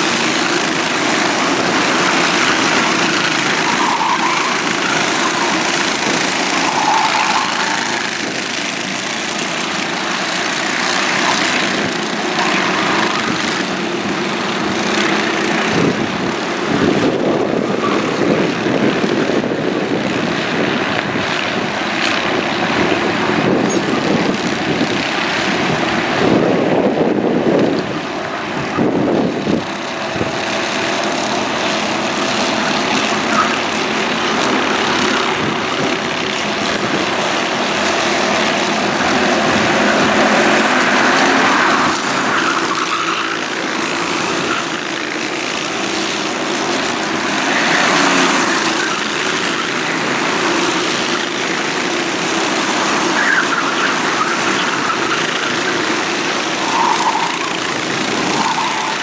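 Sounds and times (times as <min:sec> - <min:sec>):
go-kart engines passing: 0:00.0 - 0:59.0.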